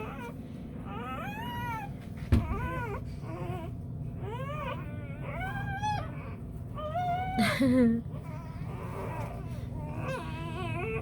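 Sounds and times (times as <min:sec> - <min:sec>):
puppies squealing: 0:00.0 - 0:11.0.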